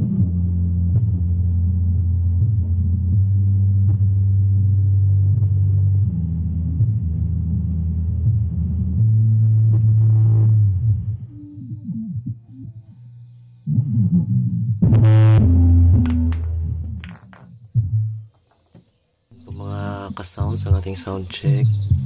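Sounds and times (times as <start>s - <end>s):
deep bass notes: 0.0s - 17.1s, 19.3s - 22.0s.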